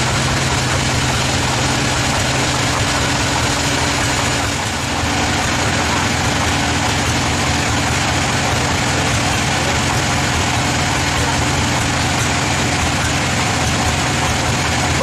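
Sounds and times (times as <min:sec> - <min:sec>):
sawmill engine idling: 0:00.0 - 0:15.0.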